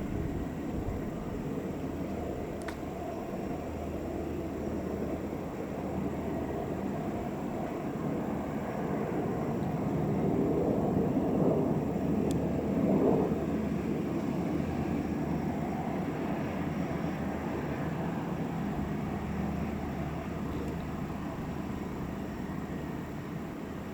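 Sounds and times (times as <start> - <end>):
helicopter rotors and turbines: 0.0 - 23.9.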